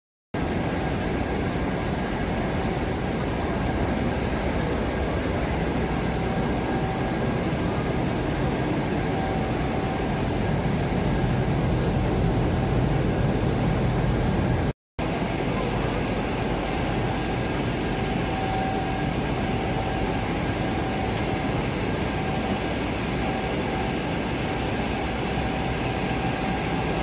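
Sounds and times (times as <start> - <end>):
machinery droning: 0.4 - 27.0.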